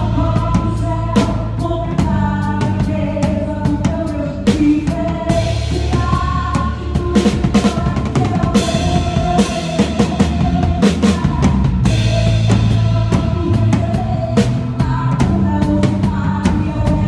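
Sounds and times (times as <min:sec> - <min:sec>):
drum kit: 0:00.0 - 0:17.0
live band music: 0:00.0 - 0:17.0.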